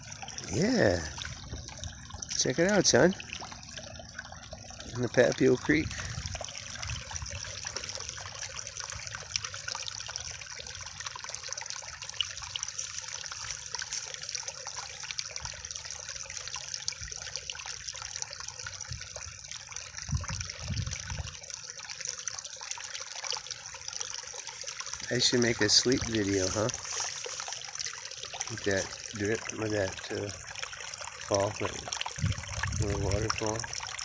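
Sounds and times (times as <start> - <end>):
small waterfall splashing: 0.0 - 34.0.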